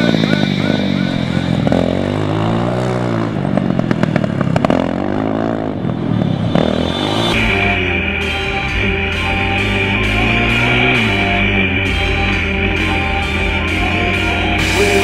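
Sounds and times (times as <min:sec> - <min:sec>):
high steady whine: 0:00.0 - 0:02.7, 0:05.6 - 0:15.0
race car engine revving: 0:00.0 - 0:15.0.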